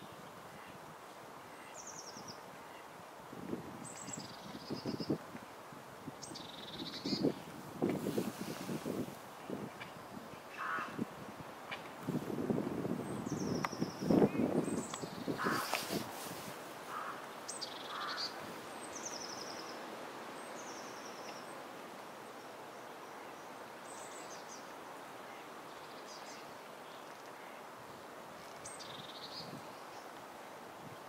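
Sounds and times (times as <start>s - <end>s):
outdoor hiss: 0.0s - 31.0s.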